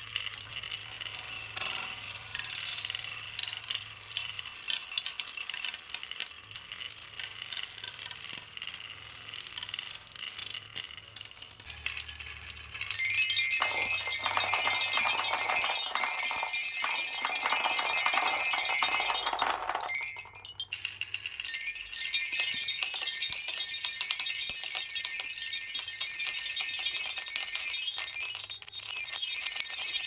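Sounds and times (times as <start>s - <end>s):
marbles clattering down a run: 0.1s - 30.0s.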